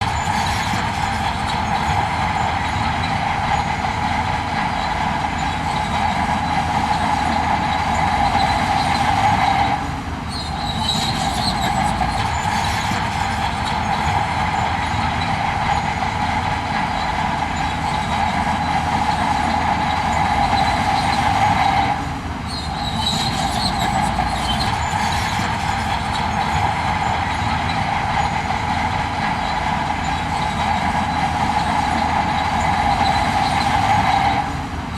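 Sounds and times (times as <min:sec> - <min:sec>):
earthmoving machinery diesel drone: 0:00.0 - 0:34.9
high machine whine: 0:00.0 - 0:34.9.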